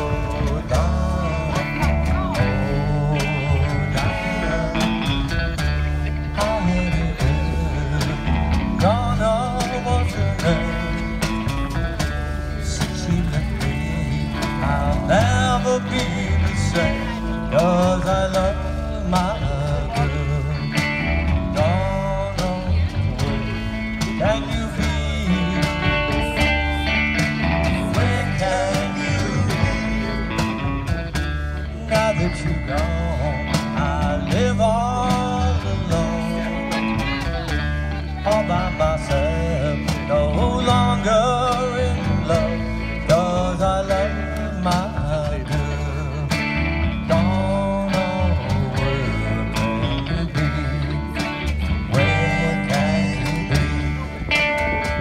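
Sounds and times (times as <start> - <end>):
drum strokes: 0.0 - 55.0
electric guitar: 0.0 - 55.0
live band playing upbeat tune: 0.0 - 55.0
person singing: 0.0 - 55.0
upright bass: 0.0 - 55.0.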